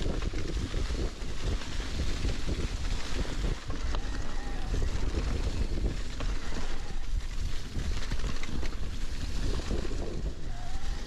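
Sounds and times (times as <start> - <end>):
bike clattering on rough trail: 0.0 - 11.0
tyres rolling through dry leaves: 0.0 - 11.0
wind buffeting microphone: 0.0 - 11.0.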